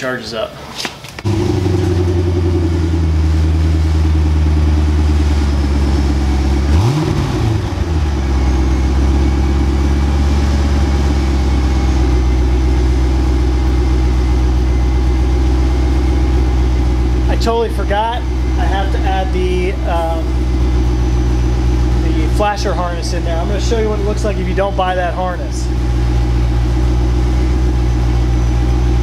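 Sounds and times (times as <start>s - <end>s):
car engine idling: 1.2s - 29.0s
engine throttle blip: 1.2s - 29.0s.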